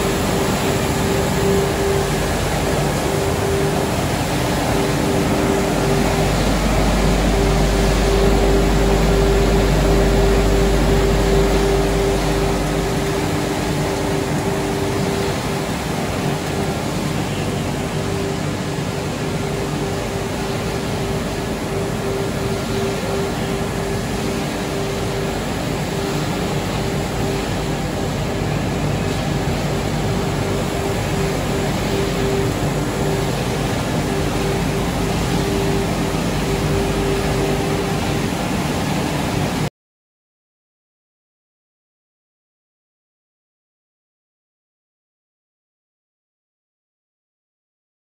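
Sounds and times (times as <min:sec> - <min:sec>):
machinery drone with hum: 0:00.0 - 0:39.7.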